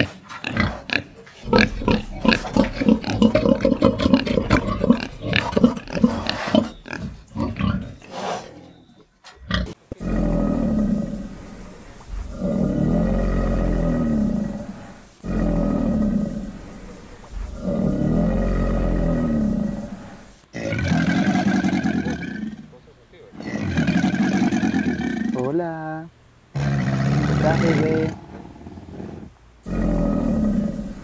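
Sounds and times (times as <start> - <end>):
pigs grunting: 0.0 - 25.6, 26.5 - 31.0
crocodile growling rumbles: 0.5 - 7.9, 9.5 - 22.7, 26.6 - 31.0.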